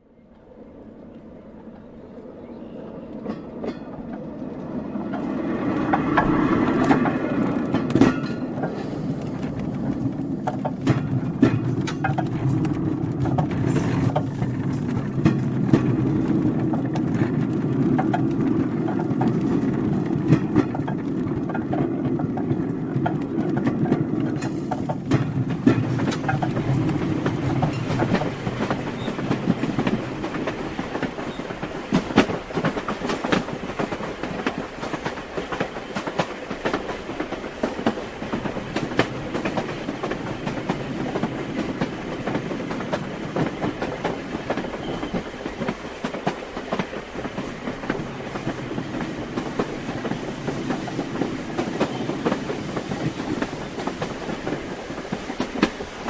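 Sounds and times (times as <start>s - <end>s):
train wheels clacking on rails: 3.1s - 56.0s.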